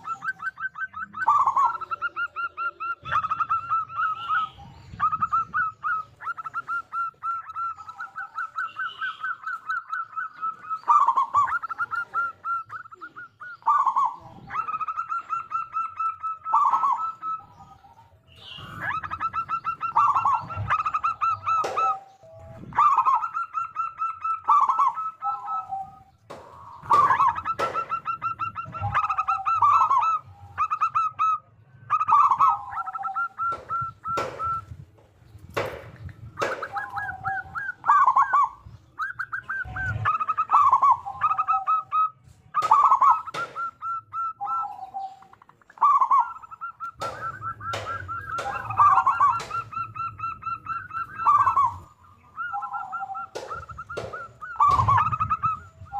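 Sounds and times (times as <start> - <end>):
dove cooing: 0.0 - 34.9, 36.0 - 55.9.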